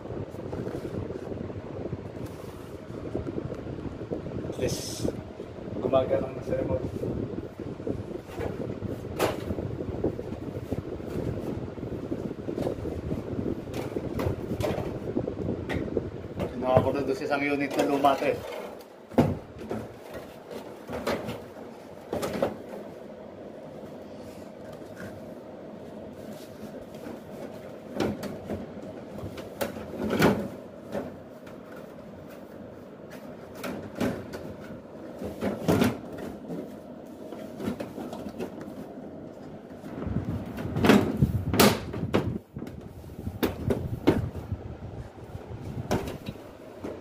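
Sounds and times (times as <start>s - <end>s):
steady hum: 0.0s - 47.0s.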